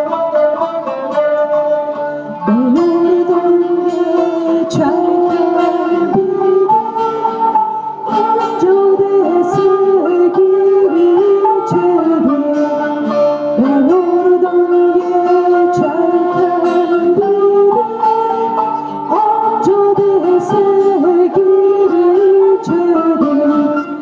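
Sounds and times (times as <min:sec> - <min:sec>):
acoustic guitar: 0:00.0 - 0:24.0
person singing long notes: 0:00.0 - 0:24.0.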